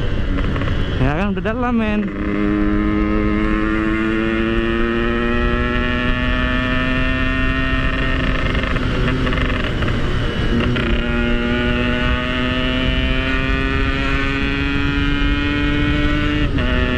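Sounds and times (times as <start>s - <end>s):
two-stroke motorcycle engine running: 0.0s - 16.9s.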